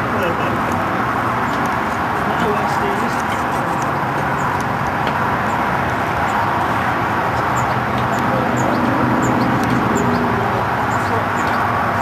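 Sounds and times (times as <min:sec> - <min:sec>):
outdoor rumble and hiss: 0:00.0 - 0:12.0.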